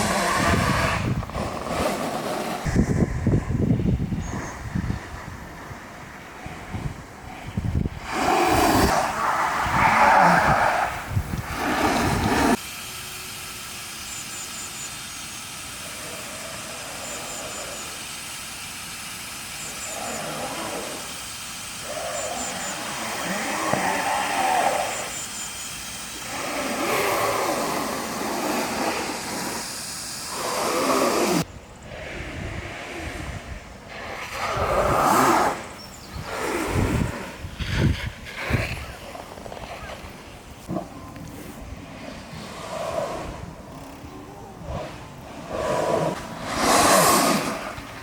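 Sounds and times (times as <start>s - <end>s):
wheels scraping on pavement: 0.0s - 12.7s, 19.5s - 48.0s
wind hiss: 0.0s - 48.0s.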